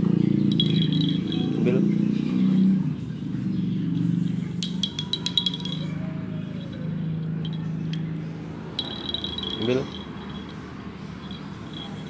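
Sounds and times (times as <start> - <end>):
light metallic clinking: 0.3 - 2.8, 3.9 - 12.0.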